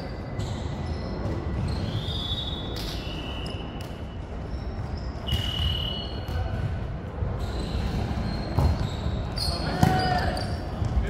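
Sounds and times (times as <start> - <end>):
shoes squeaking on wooden court: 0.0 - 2.9, 4.4 - 6.7, 7.3 - 11.0.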